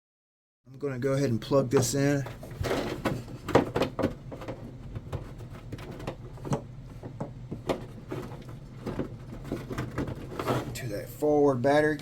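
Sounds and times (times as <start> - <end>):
steady low hum: 0.7 - 12.0.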